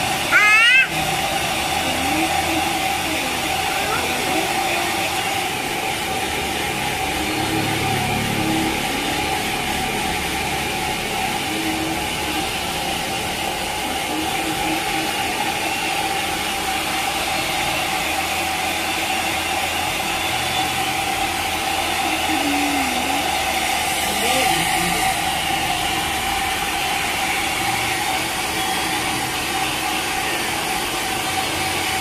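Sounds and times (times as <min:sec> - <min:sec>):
hair dryer running: 0:00.0 - 0:32.0.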